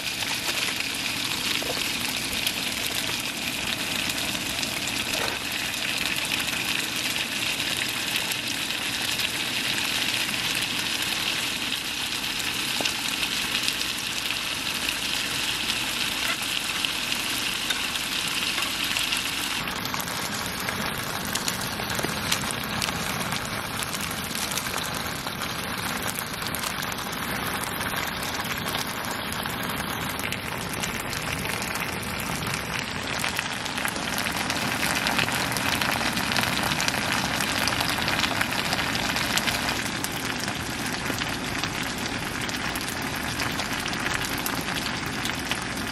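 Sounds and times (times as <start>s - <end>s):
meat frying in oil: 0.0s - 45.9s
rain falling: 0.0s - 45.9s.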